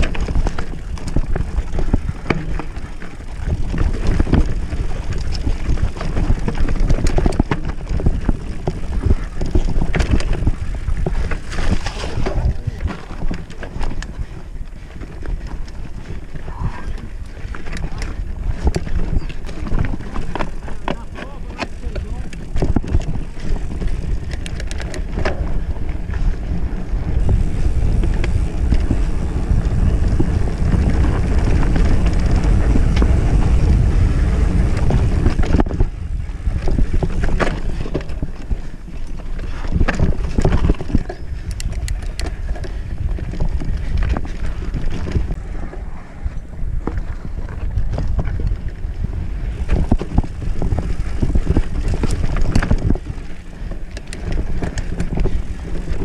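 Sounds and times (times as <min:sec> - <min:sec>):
bike rattling over stones: 0:00.0 - 0:56.0
mountain bike rolling on dirt: 0:00.0 - 0:56.0
wind buffeting microphone: 0:00.0 - 0:56.0.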